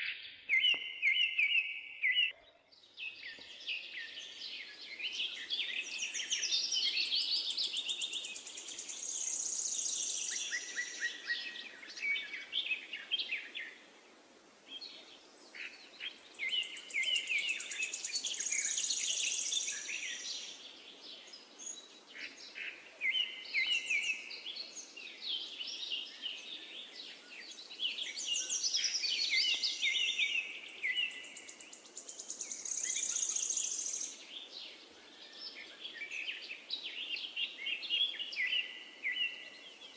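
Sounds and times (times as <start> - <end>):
songbirds chirping and trilling: 0.0 - 39.9
faint steady hiss: 3.0 - 39.9.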